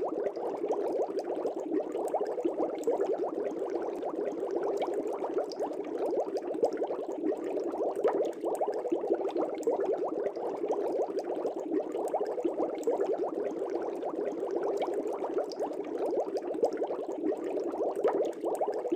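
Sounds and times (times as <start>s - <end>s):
air bubbling in fish tank water: 0.0s - 18.9s.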